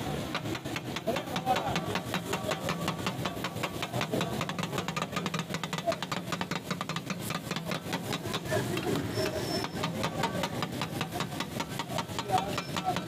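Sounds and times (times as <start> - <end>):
onions frying in oil: 0.0 - 13.0
metal spatulas clacking on griddle: 0.2 - 13.0.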